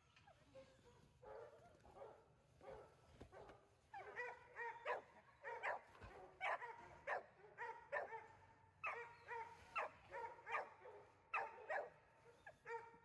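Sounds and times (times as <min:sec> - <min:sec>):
faint dog barking: 0:00.4 - 0:13.0.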